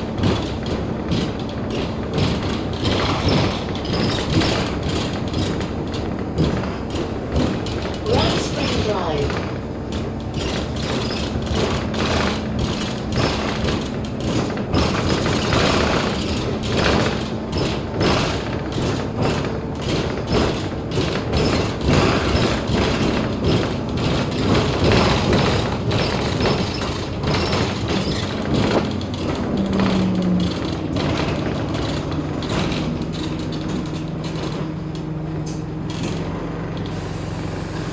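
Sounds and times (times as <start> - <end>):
bus engine running: 0.0 - 37.9
bus interior squeaking and rattling: 0.0 - 37.9.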